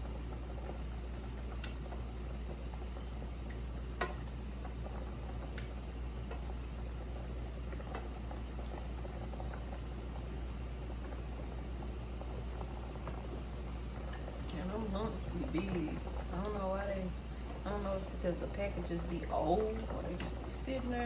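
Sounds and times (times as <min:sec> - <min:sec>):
pot of food bubbling: 0:00.0 - 0:21.0.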